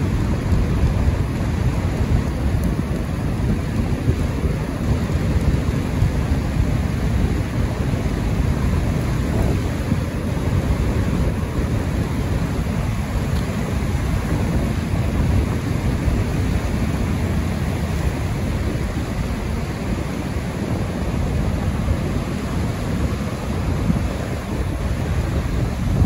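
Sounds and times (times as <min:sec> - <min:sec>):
rain: 0:00.0 - 0:26.0
wind buffeting microphone: 0:00.0 - 0:26.0.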